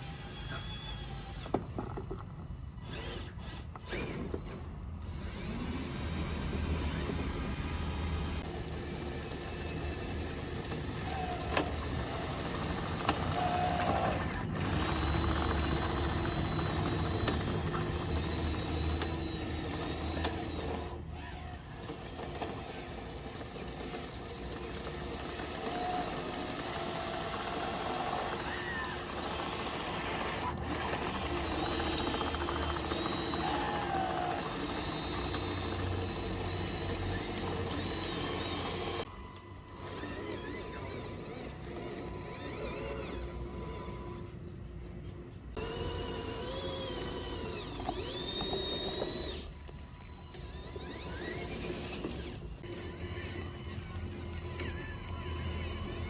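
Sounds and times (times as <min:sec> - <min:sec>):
small electric motors whining: 0:00.0 - 0:44.7, 0:45.5 - 0:56.0.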